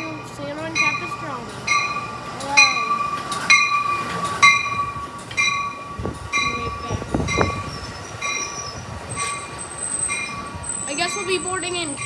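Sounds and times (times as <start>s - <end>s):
low rail rumble: 0.0s - 12.0s
warning bell striking: 0.0s - 12.0s.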